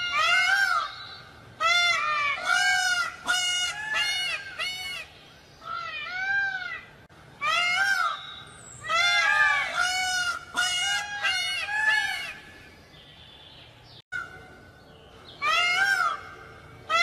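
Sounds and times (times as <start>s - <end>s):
peacock calling: 0.0s - 12.8s, 15.2s - 17.0s.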